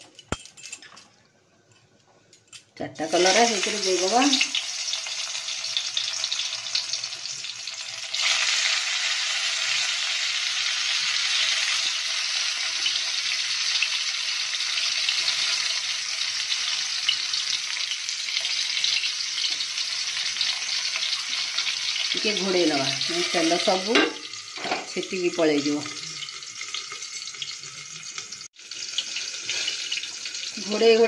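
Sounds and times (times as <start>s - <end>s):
vegetables sizzling in hot oil: 3.0s - 31.0s.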